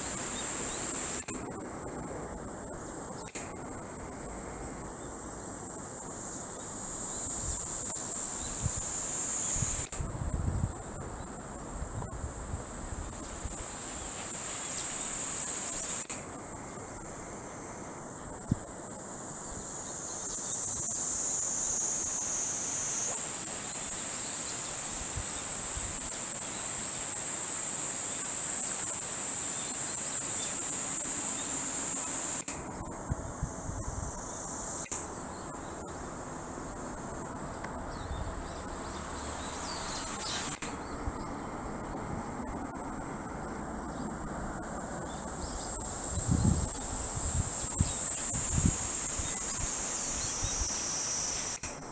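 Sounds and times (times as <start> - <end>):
lower insect rasp: 0.0 - 1.7, 5.7 - 11.4, 12.0 - 16.2, 19.4 - 42.8, 45.1 - 51.9
cicadas buzzing: 0.0 - 51.9.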